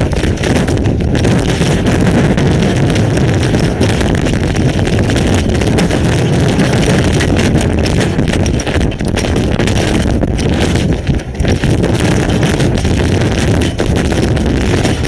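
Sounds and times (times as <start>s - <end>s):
hail and rain pelting camera: 0.0s - 15.0s
storm wind buffeting microphone: 0.0s - 15.0s.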